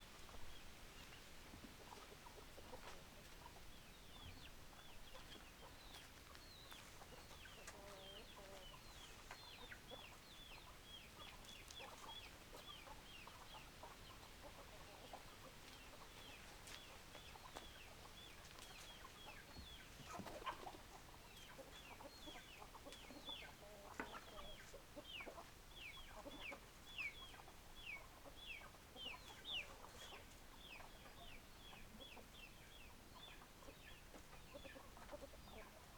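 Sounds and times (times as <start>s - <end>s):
chickens clucking: 0.1s - 35.9s
chicks peeping: 0.2s - 35.9s.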